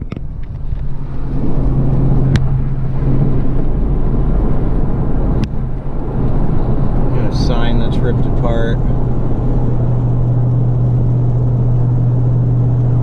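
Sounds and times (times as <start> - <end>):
road and engine drone in vehicle: 0.0 - 13.0.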